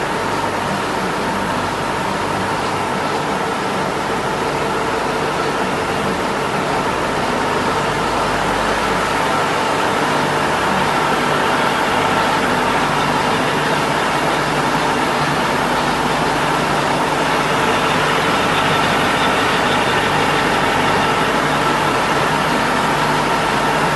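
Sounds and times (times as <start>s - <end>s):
printing press mechanical whir: 0.0s - 23.9s
steady machine tones: 0.0s - 23.9s.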